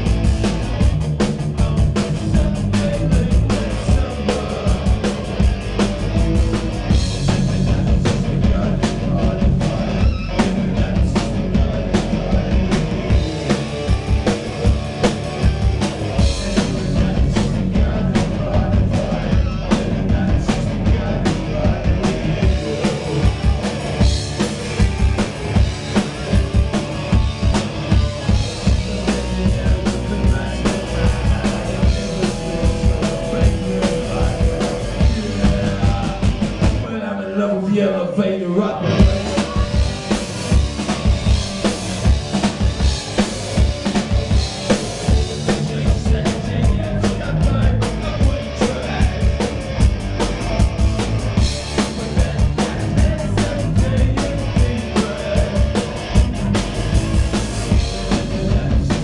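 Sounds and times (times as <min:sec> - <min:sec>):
drum kit beat: 0:00.0 - 0:36.9, 0:38.8 - 0:59.0
bass guitar: 0:00.0 - 0:59.0
electric guitar: 0:00.0 - 0:59.0
person singing: 0:01.4 - 0:41.8, 0:44.0 - 0:49.7, 0:51.4 - 0:56.7, 0:57.7 - 0:59.0.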